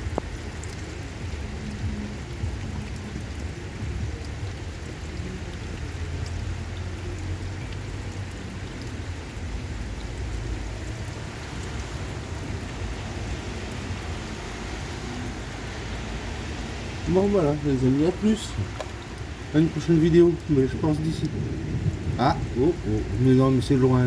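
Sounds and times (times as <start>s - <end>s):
raindrops ticking: 0.0s - 24.0s
steady rain hiss: 0.0s - 24.0s.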